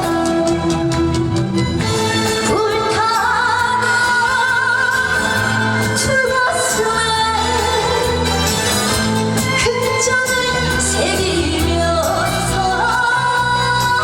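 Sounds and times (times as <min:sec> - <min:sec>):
woman singing with vibrato: 0:00.0 - 0:01.2, 0:02.1 - 0:14.0
band backing track: 0:00.0 - 0:14.0.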